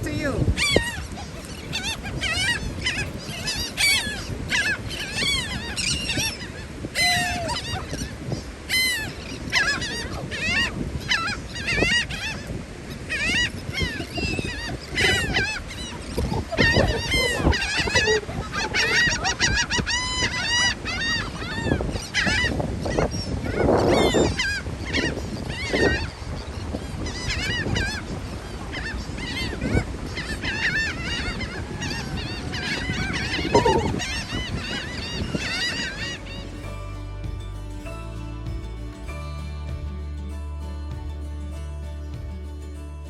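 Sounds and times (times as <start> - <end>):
gulls calling: 0.0 - 42.8.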